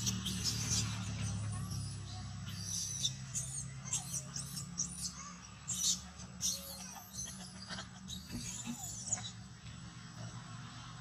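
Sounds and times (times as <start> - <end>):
baby monkey squealing cries: 0.0 - 9.4
low steady hum: 0.0 - 11.0.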